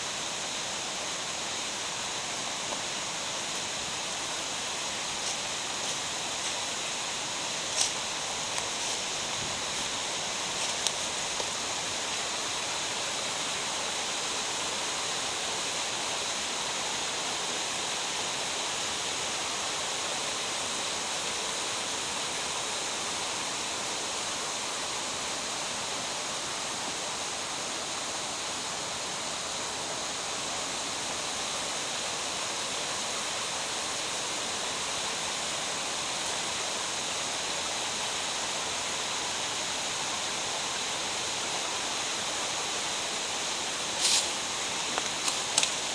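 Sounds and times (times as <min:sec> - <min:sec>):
water rushing in a stream: 0:00.0 - 0:45.9.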